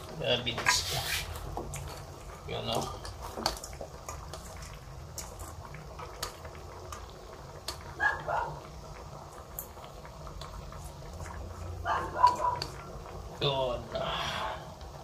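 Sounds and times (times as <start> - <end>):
broth bubbling: 0.0 - 15.0.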